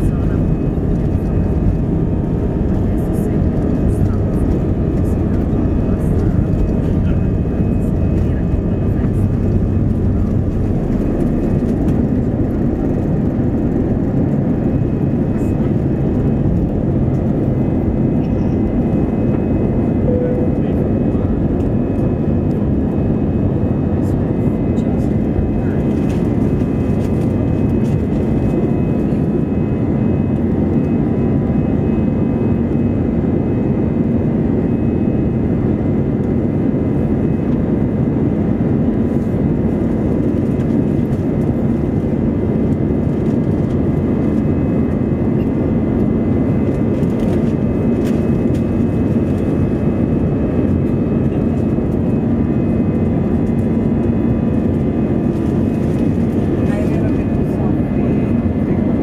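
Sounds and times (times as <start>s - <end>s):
faint steady whines: 0.0s - 59.0s
jet engine and airflow rumble: 0.0s - 59.0s.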